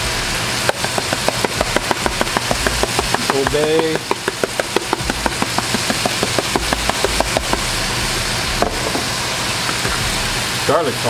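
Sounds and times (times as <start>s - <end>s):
low steady hum: 0.0s - 10.7s
shrimp sizzling in oil: 0.0s - 11.0s.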